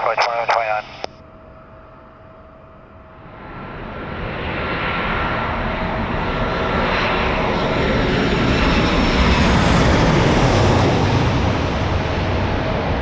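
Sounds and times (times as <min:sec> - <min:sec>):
jet engines roaring: 0:00.0 - 0:01.1, 0:03.4 - 0:13.0.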